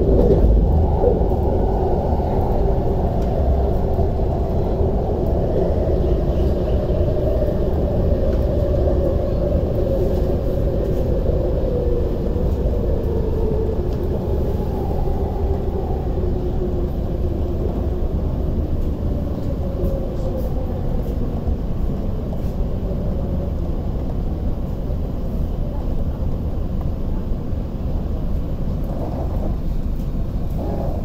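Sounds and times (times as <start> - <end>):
train carriage rumble: 0.0 - 31.0.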